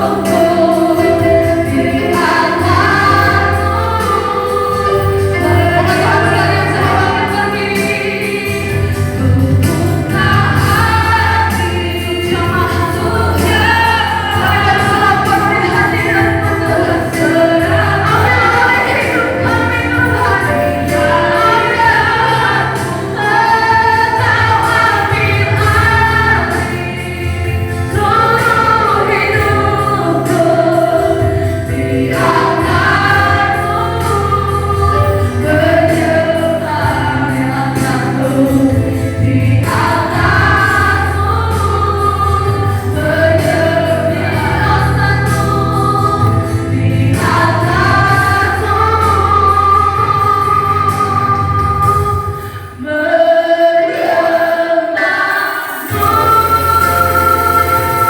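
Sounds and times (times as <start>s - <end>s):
instrumental accompaniment: 0.0s - 52.8s, 53.9s - 58.0s
group singing gospel song: 0.0s - 58.0s
steady bass: 4.8s - 52.2s.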